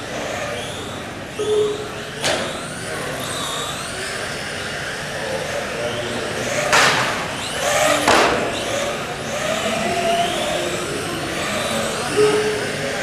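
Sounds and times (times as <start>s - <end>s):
rc car engines buzzing: 0.0s - 13.0s.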